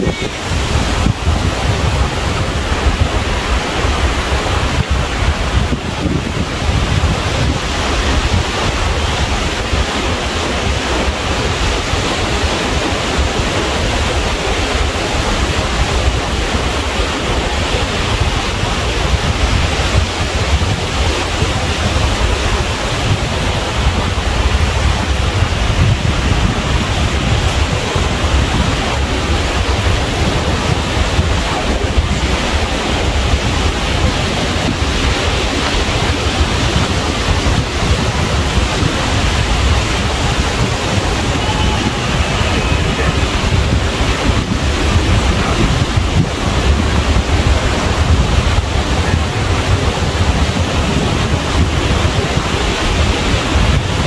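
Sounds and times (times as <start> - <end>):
ocean surf rushing: 0.0 - 54.0
wind rumble on microphone: 0.0 - 54.0.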